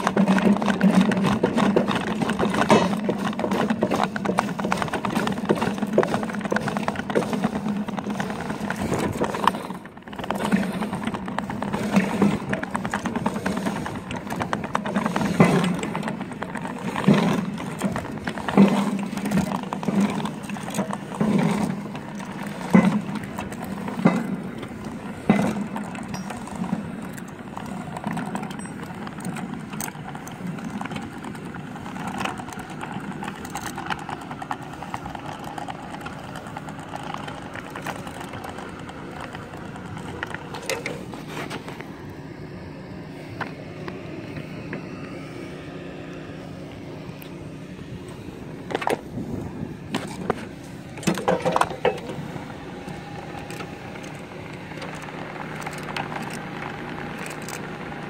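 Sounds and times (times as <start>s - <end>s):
mechanical drone: 0.0s - 58.0s.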